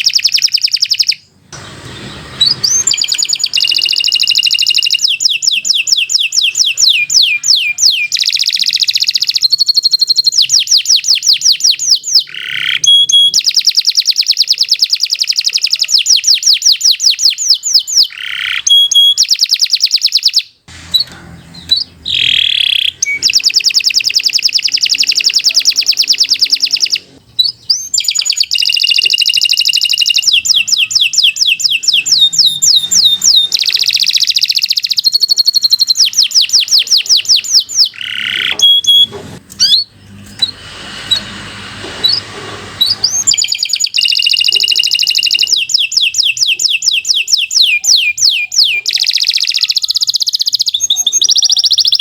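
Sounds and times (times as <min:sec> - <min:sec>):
canary singing trills: 0:00.0 - 0:41.4, 0:42.8 - 0:52.0.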